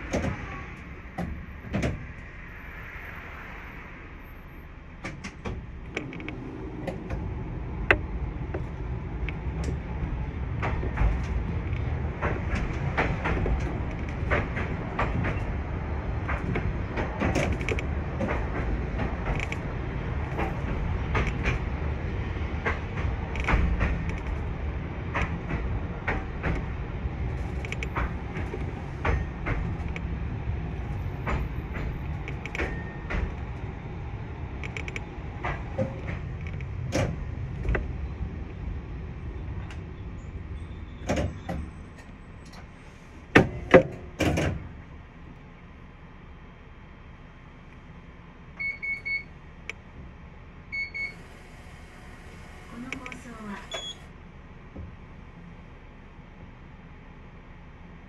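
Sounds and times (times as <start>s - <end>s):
tram rumbling: 0.0s - 58.0s.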